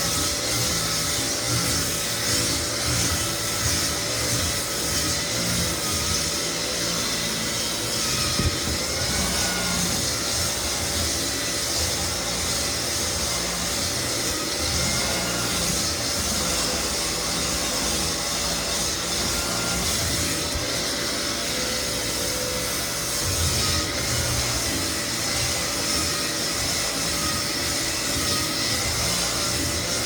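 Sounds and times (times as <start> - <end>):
floor sander running: 0.0 - 30.0.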